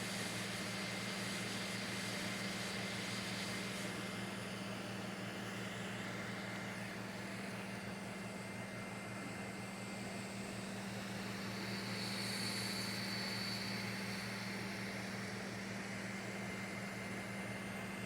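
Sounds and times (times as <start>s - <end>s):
faint high whine: 0.0s - 18.0s
printer fans and motors humming: 0.0s - 18.0s.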